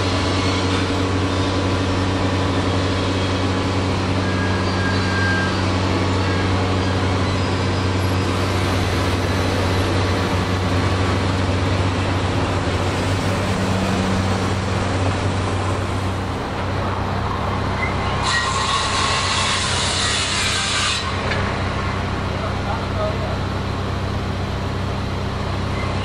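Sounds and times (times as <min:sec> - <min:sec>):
idling diesel equipment hum: 0:00.0 - 0:18.2, 0:21.0 - 0:26.0
street traffic: 0:00.0 - 0:26.0.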